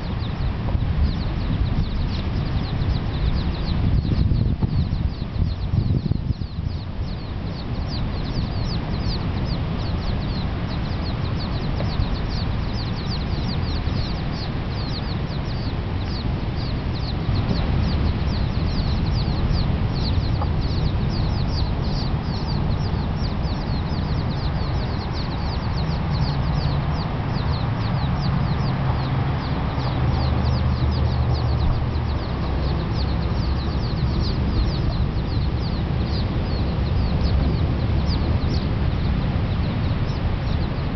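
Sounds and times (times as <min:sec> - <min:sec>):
chicks peeping: 0:00.0 - 0:40.9
low rumble: 0:00.0 - 0:40.9.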